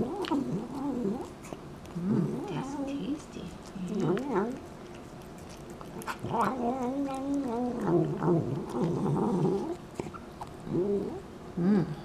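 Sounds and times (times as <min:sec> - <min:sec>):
cat murmuring while eating: 0:00.0 - 0:12.0.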